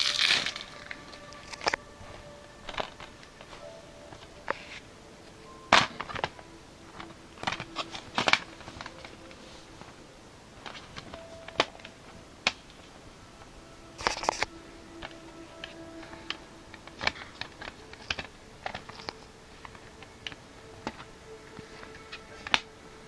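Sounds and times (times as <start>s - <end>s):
plastic packaging clicking and crinkling: 0.0s - 4.8s, 5.7s - 10.0s, 10.6s - 12.9s, 13.9s - 22.8s.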